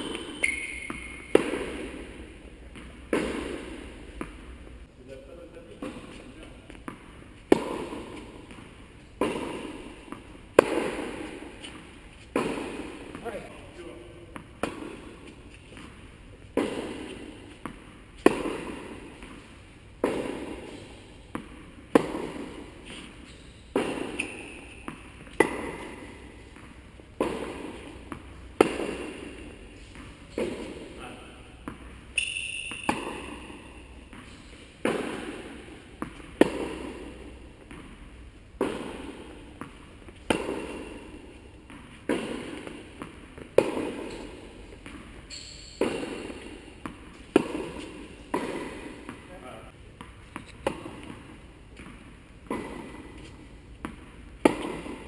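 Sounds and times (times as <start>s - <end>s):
tennis ball struck by rackets: 0.0s - 4.7s, 5.8s - 13.6s, 14.3s - 55.0s
tennis ball bouncing on court: 0.0s - 4.8s, 5.7s - 55.0s.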